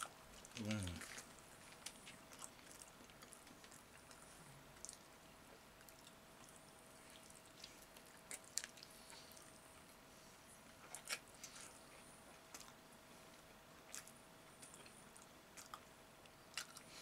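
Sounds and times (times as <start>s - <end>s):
man chewing: 0.0s - 10.0s, 10.6s - 17.0s.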